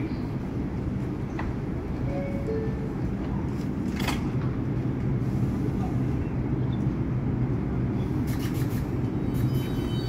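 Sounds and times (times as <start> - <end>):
subway car equipment humming: 0.0 - 10.0.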